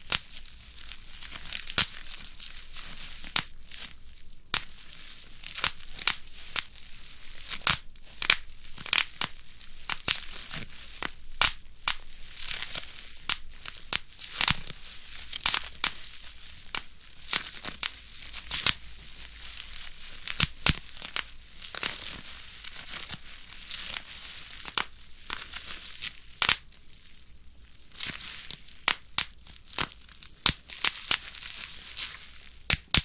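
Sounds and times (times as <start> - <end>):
bubble wrap popping: 0.0 - 33.0
plastic sheet crinkling: 0.0 - 33.0.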